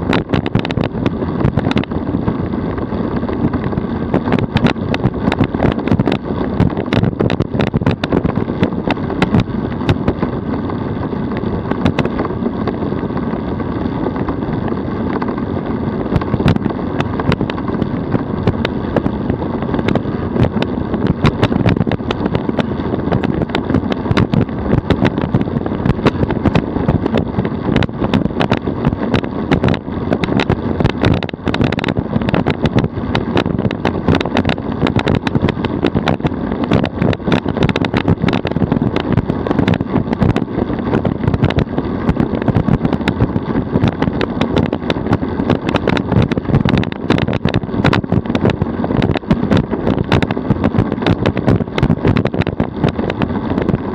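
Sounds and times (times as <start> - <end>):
small clicks and rattles: 0.0 - 53.9
tyre and road noise rumble: 0.0 - 53.9.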